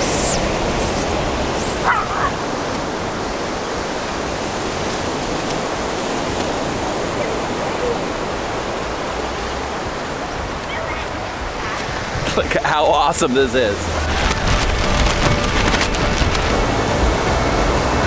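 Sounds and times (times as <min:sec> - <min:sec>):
ocean surf: 0:00.0 - 0:18.0
wind: 0:00.0 - 0:18.0.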